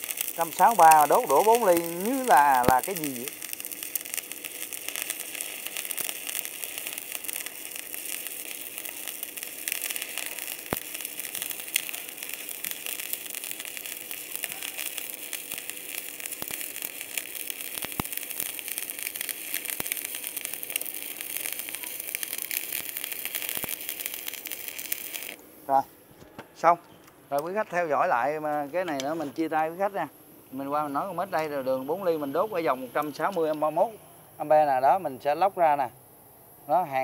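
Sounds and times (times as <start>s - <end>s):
sharp welding pops: 0.0s - 25.5s, 26.2s - 29.8s, 30.9s - 33.8s
welding arc crackling: 0.0s - 25.8s, 27.3s - 33.9s.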